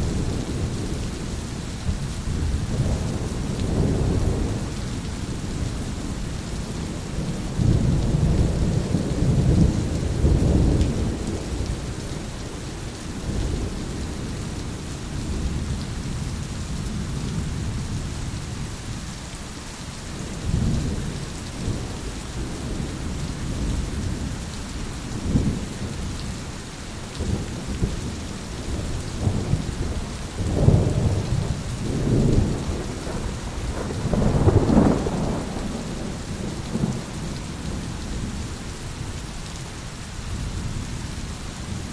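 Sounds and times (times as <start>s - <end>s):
low rolling thunder: 0.0s - 18.8s, 20.2s - 39.2s
rain falling: 0.0s - 41.9s.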